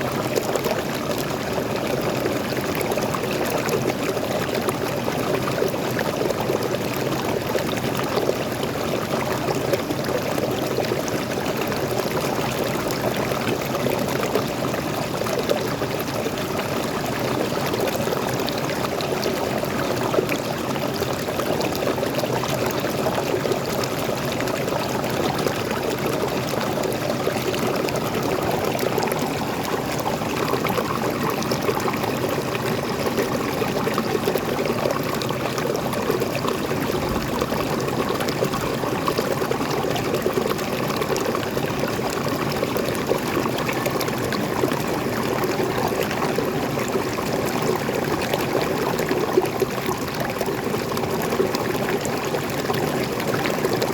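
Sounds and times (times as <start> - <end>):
stream splashing over rocks: 0.0 - 53.9.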